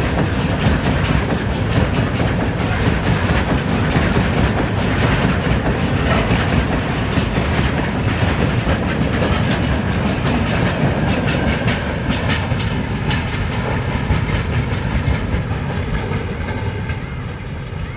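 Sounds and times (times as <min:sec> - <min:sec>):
wheels clattering over rail joints: 0:00.0 - 0:17.3
freight train rolling past: 0:00.0 - 0:17.9.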